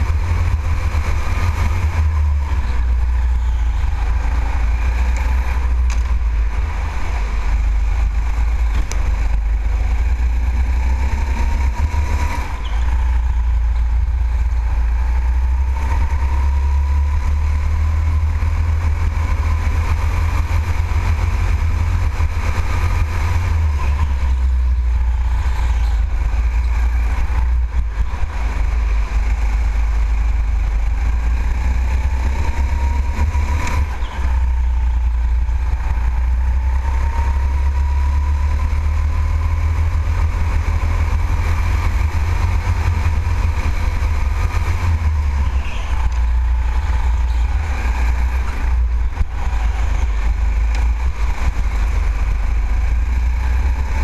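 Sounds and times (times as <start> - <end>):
go-kart engine whine: 0.0 - 54.0.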